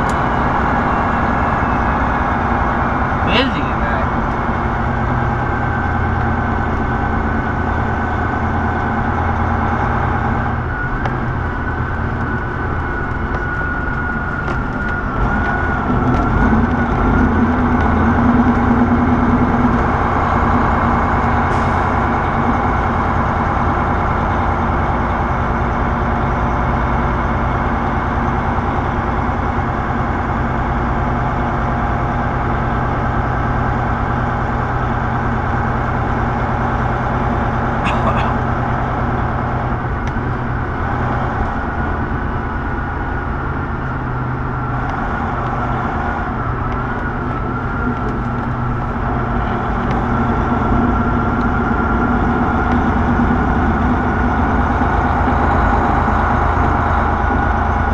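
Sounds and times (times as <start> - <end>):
truck engine drone: 0.0 - 57.9.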